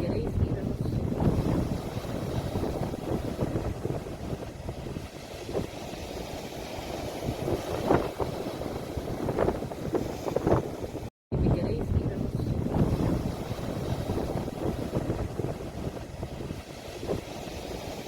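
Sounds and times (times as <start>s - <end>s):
ocean waves: 0.0s - 18.0s
wind rumbling on microphone: 0.0s - 18.0s.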